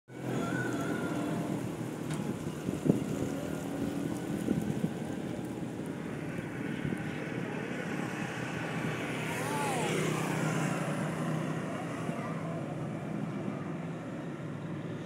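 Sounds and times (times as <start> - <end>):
wind rushing through tree: 0.1 - 15.0.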